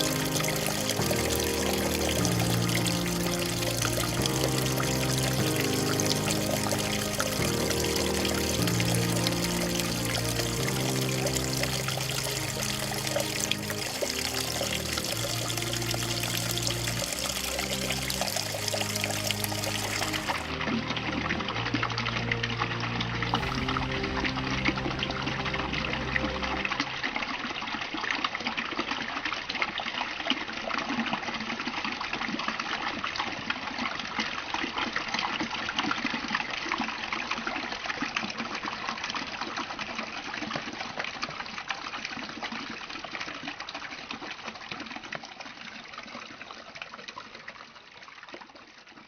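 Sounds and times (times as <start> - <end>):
running water rushing: 0.0 - 49.0.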